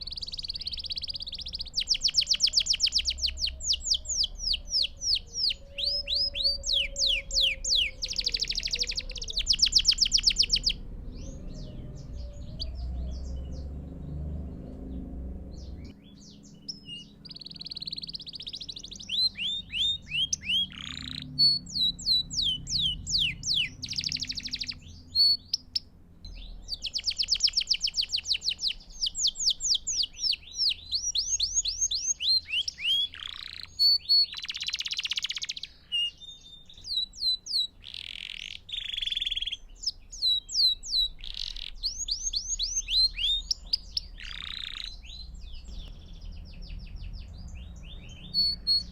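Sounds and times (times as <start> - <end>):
canary singing: 0.0 - 48.9.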